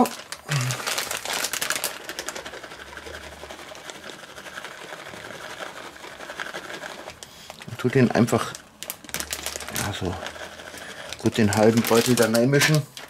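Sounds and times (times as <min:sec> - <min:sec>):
plastic bag crinkling: 0:00.0 - 0:13.0
shredded cheese rustling into bowl: 0:00.0 - 0:13.0.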